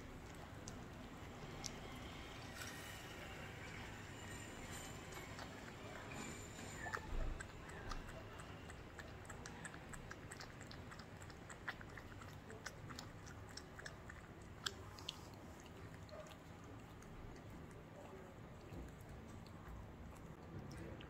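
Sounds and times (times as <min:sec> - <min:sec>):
cats chewing wetly: 0:00.0 - 0:21.0.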